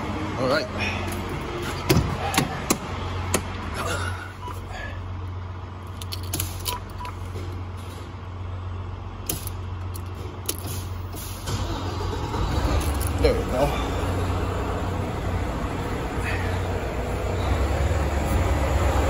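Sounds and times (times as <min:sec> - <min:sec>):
truck engine hum: 0:00.0 - 0:19.0.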